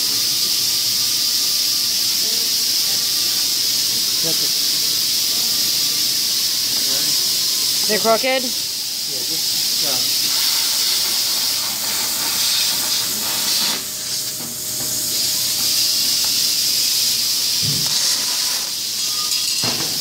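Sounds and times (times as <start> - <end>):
plasma cutter hissing: 0.0 - 20.0.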